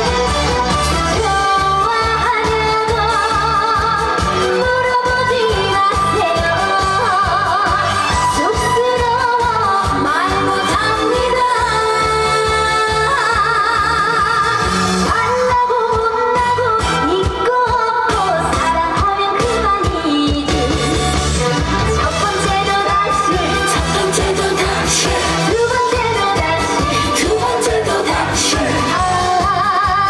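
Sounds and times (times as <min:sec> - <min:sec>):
backing track with steady beat: 0:00.0 - 0:30.0
woman singing with vibrato: 0:01.1 - 0:30.0.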